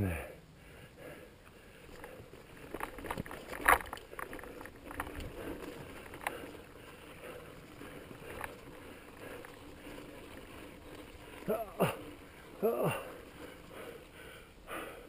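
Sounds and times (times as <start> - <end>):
bike tyre and wind rush: 1.0 - 15.0
bike knocking and rattling: 1.5 - 15.0.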